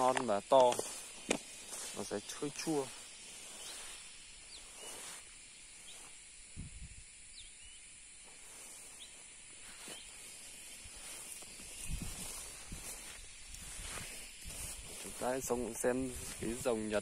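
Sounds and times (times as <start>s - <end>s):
insects droning: 0.0s - 17.0s
small birds chirping: 0.0s - 17.0s.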